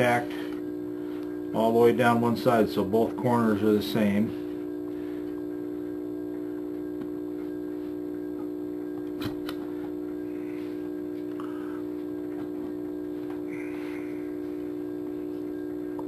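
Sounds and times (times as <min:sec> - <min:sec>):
steady hum with overtones: 0:00.0 - 0:16.0.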